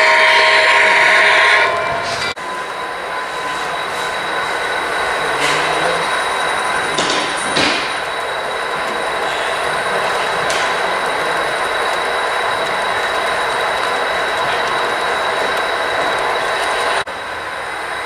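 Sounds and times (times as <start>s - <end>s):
model train rolling rattle: 0.0s - 18.0s
thin high whine: 0.0s - 18.0s.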